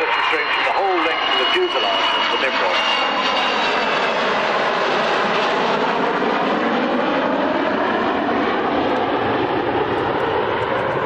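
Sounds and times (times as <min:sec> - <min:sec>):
jet aircraft low pass: 0:00.0 - 0:11.0.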